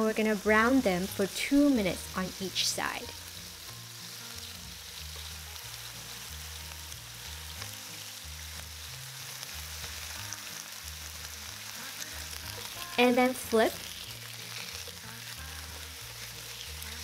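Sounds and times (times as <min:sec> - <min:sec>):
background music bass line: 0:00.0 - 0:17.0
meat sizzling in hot oil: 0:00.0 - 0:17.0.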